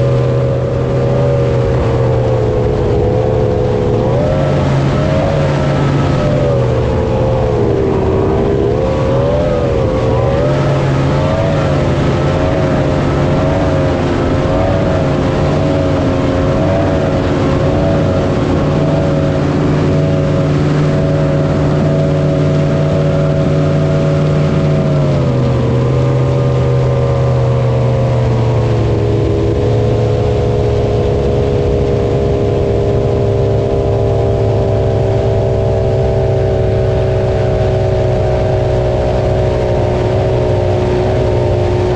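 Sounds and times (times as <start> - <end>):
jet boat engine running: 0.0 - 41.9.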